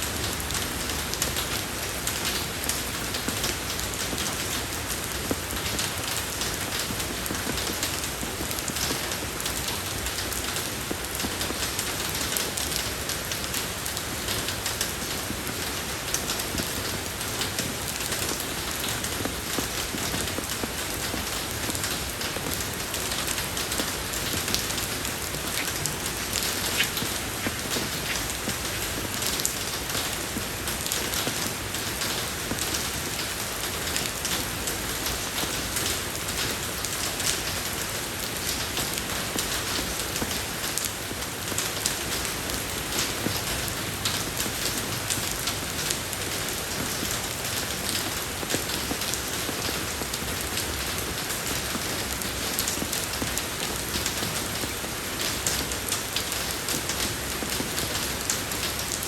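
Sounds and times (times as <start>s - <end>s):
rain falling on a road: 0.0s - 59.0s.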